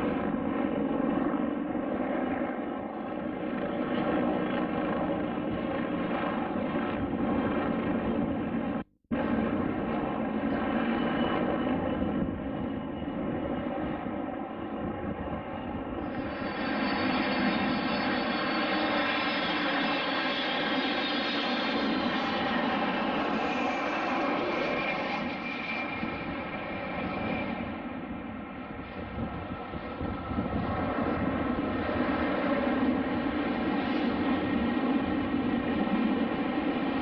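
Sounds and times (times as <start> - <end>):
airplane engines droning: 0.0 - 37.0.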